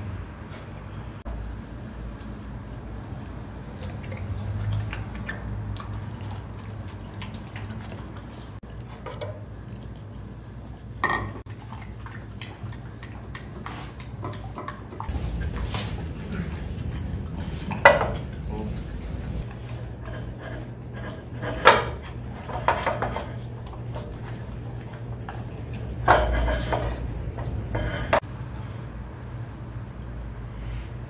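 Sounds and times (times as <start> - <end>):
dog licking and chewing wet food: 1.2 - 26.2.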